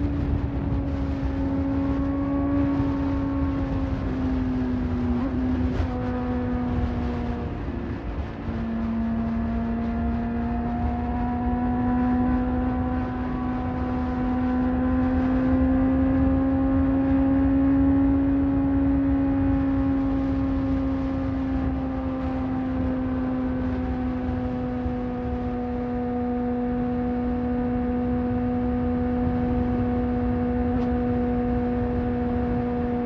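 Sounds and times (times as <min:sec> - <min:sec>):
motorcycle engine accelerating: 0:00.0 - 0:33.0
wind and road noise: 0:00.0 - 0:33.0.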